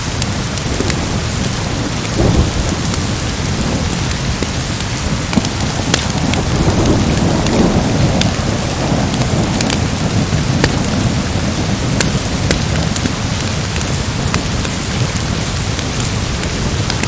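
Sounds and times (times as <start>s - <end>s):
heavy rain: 0.0s - 17.0s
low thunder rumble: 0.0s - 17.0s
wood fire crackling: 0.0s - 17.0s.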